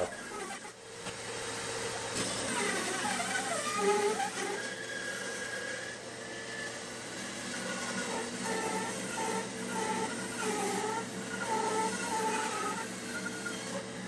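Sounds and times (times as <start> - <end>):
bandsaw cutting wood: 0.0 - 0.8, 2.2 - 6.0, 7.2 - 13.9.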